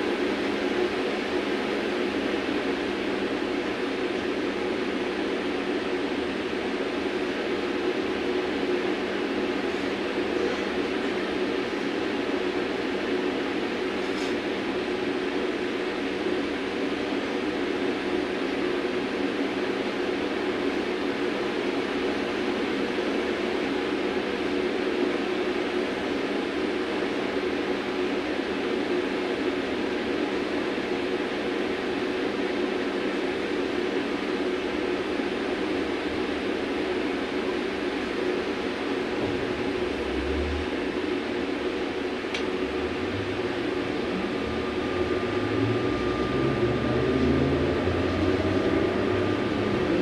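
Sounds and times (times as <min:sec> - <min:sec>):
trolleybus equipment hum: 0:00.0 - 0:19.4, 0:21.2 - 0:50.0.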